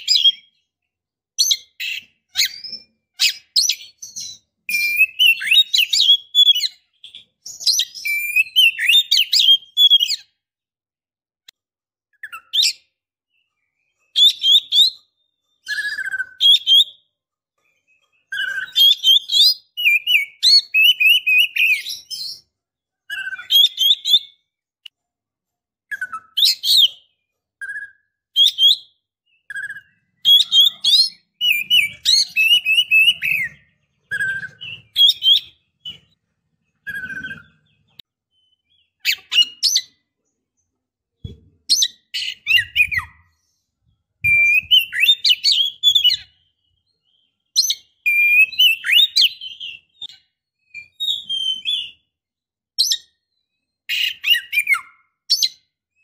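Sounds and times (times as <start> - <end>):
bird chirps and whistled trills: 0.0 - 10.5, 12.1 - 25.0, 25.8 - 56.0.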